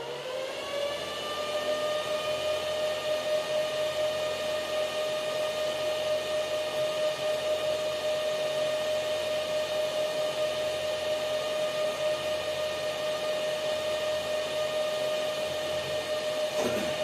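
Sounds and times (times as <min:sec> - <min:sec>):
cooling fans whining: 0:00.0 - 0:17.0.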